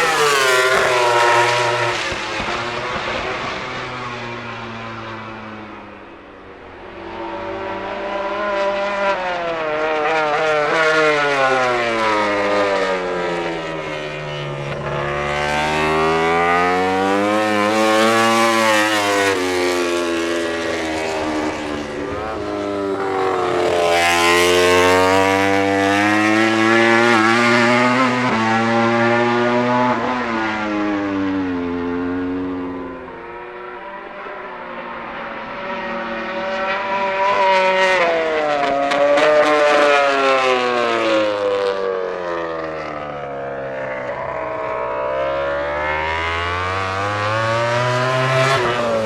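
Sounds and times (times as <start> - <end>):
racing motorcycle engine revving: 0.0 - 49.0.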